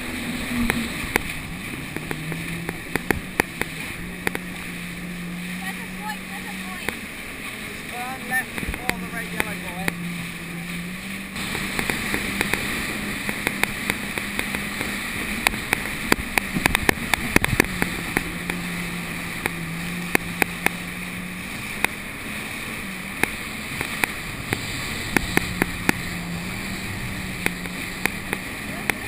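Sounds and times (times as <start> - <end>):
hull slapping on waves: 0.0 - 29.0
jet ski engine droning: 0.0 - 29.0
water spray rushing: 0.0 - 29.0.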